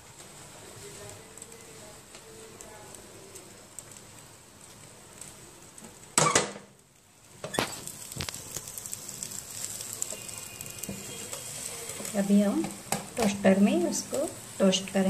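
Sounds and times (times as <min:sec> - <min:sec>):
light hiss: 0:00.0 - 0:15.0.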